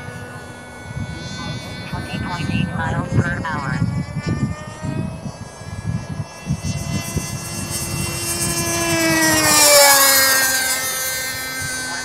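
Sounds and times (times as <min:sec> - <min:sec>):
model plane engine whining past: 0:00.0 - 0:12.0.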